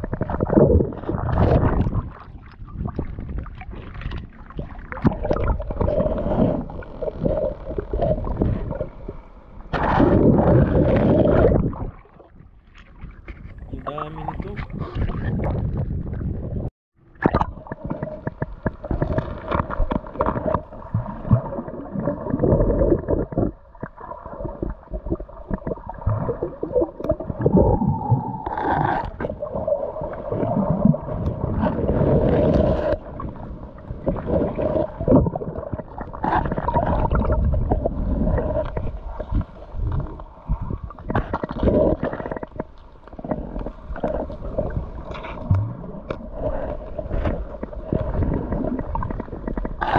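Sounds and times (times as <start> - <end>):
hand knocking and scraping seabed: 0.0 - 49.9
underwater sloshing and gurgling: 0.0 - 49.9.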